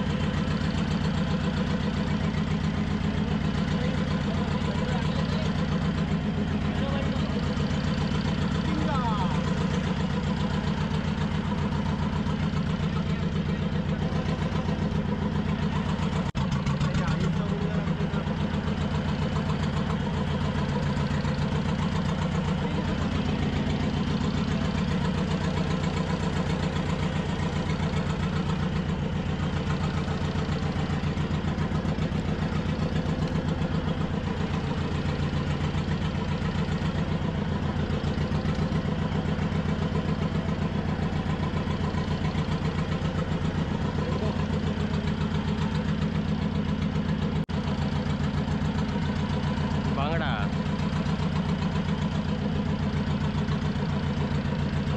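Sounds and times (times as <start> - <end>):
boat engine idling: 0.0 - 54.9.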